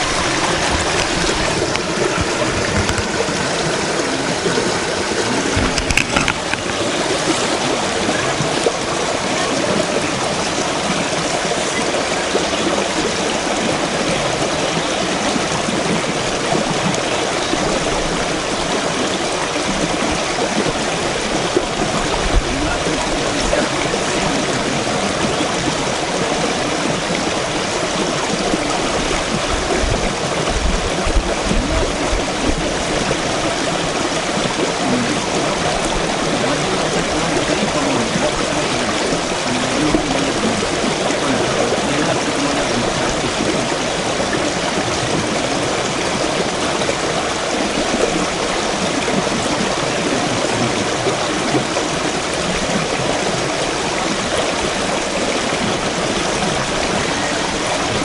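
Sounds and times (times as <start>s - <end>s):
brook running over stones: 0.0s - 58.0s
water splashing through rapid: 0.0s - 58.0s.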